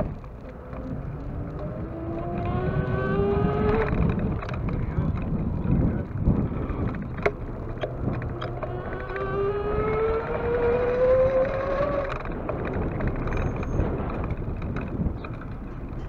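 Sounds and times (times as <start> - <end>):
vehicle engine accelerating: 0.0 - 16.0
wind rumble on microphone: 0.0 - 16.0.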